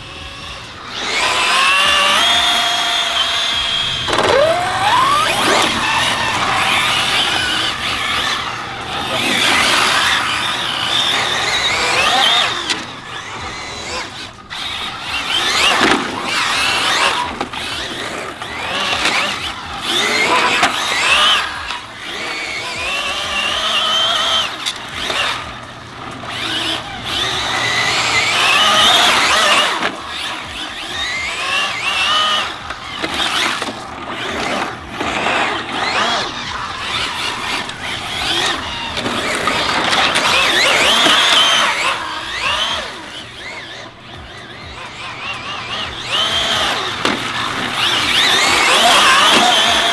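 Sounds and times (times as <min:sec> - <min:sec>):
electric motor whining: 0:00.0 - 0:49.9
tyres skidding on asphalt: 0:00.0 - 0:49.9.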